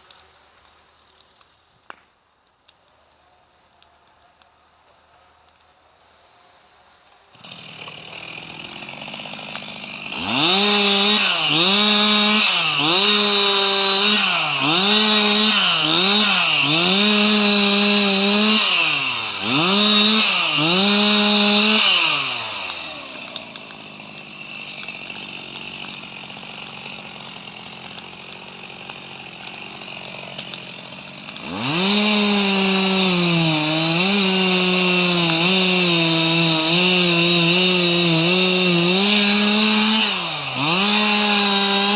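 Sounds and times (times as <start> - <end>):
chainsaw cutting wood: 7.3 - 41.9.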